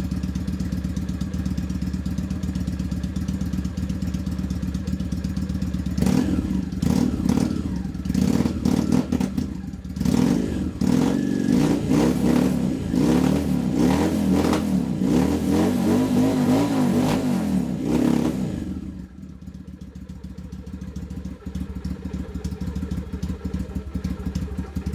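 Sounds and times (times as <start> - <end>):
motorcycle engine revving and idling: 0.0 - 24.9.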